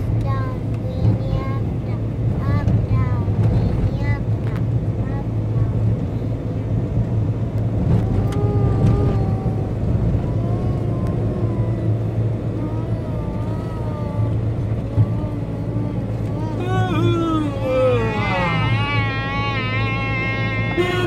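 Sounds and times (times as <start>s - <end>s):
van engine and tyre drone: 0.0s - 21.0s.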